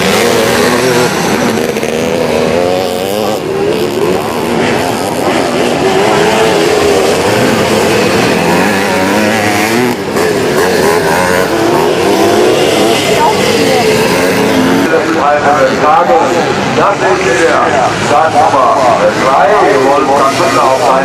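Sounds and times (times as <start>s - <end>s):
motocross motorcycles revving: 0.0s - 21.0s.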